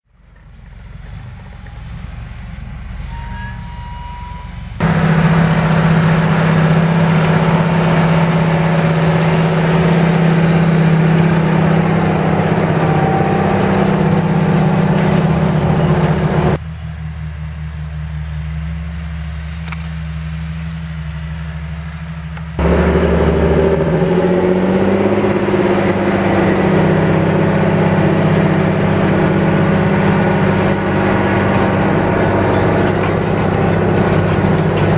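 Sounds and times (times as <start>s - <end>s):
tractor diesel engine drone: 0.0s - 34.9s.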